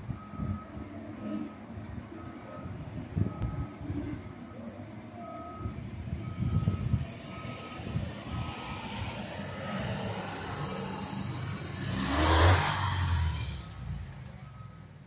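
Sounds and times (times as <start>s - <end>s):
diesel engines rumbling: 0.0s - 15.0s
reversing alarm beeping: 0.1s - 15.0s.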